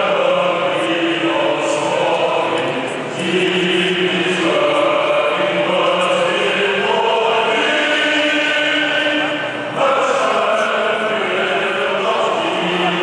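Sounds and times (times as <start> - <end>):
stadium crowd singing: 0.0 - 13.0.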